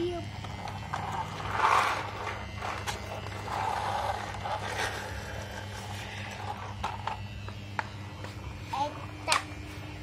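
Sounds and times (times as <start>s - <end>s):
plastic toy scraping on concrete: 0.1s - 9.4s.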